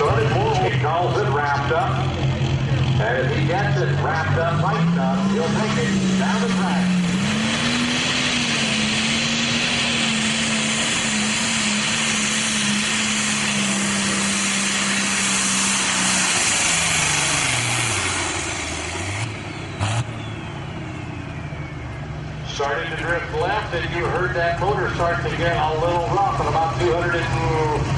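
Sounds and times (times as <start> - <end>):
diesel tractor engine under load: 0.0 - 27.9.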